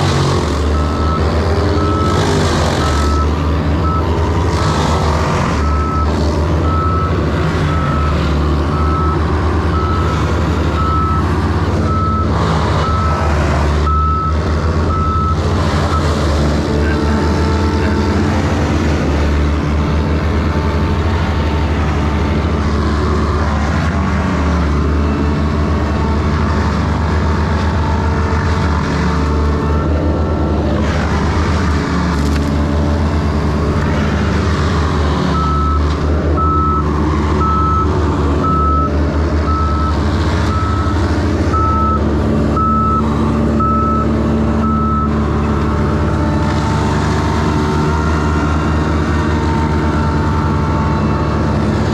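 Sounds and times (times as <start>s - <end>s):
heavy vehicle engine droning: 0.0s - 51.9s.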